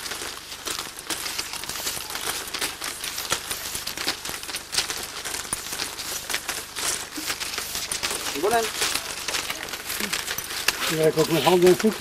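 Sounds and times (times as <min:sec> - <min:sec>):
reed strips rustling and clicking: 0:00.0 - 0:12.0.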